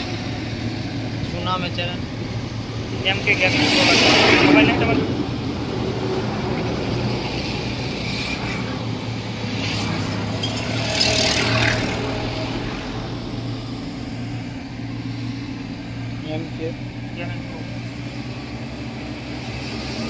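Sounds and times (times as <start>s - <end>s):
diesel engine hum: 0.0s - 20.0s.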